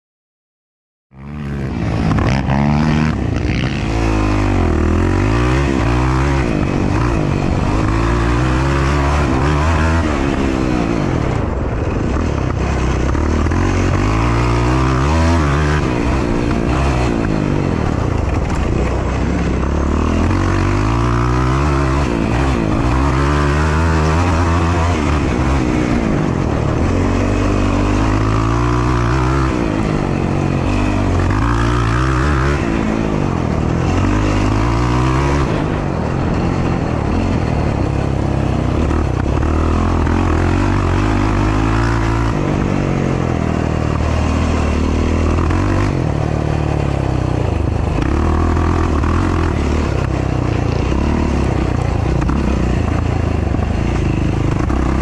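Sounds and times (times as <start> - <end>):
quad engine revving: 1.2 - 55.0.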